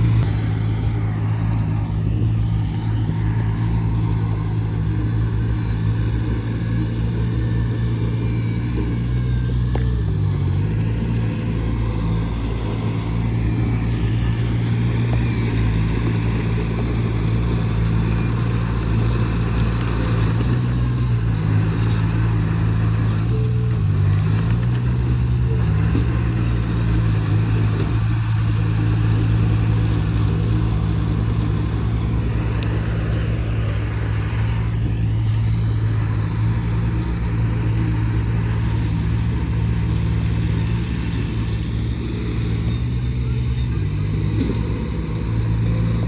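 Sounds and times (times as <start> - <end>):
heavy diesel engine under load: 0.0 - 46.0.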